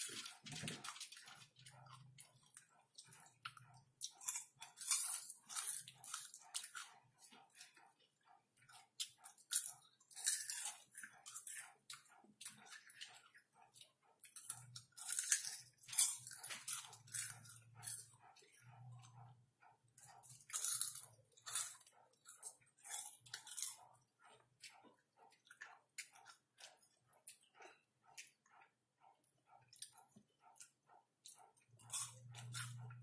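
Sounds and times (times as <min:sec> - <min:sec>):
popcorn crunching and chewing: 0:00.0 - 0:33.0.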